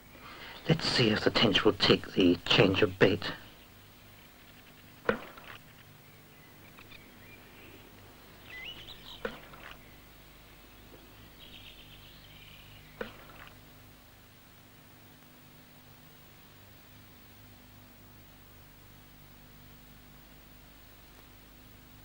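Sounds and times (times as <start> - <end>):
faint birds chirping: 0.0 - 22.0
steady low hum: 0.0 - 22.0.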